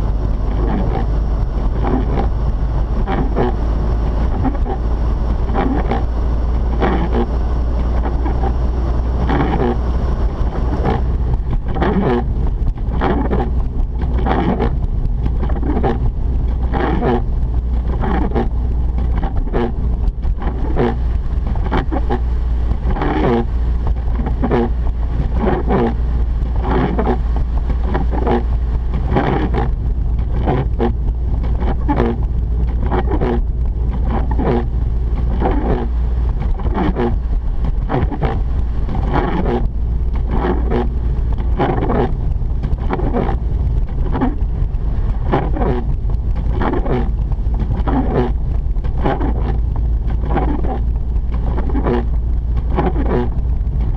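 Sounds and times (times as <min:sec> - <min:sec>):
low engine and tyre rumble: 0:00.0 - 0:53.9.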